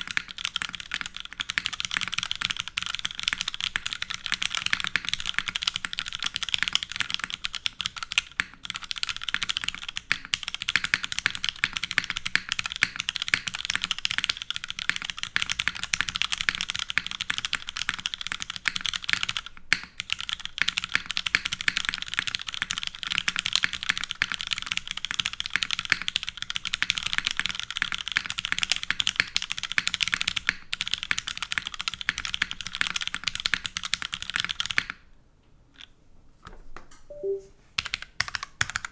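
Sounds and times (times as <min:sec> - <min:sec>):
fast typing on mechanical keyboard: 0:00.0 - 0:35.0, 0:37.8 - 0:38.9.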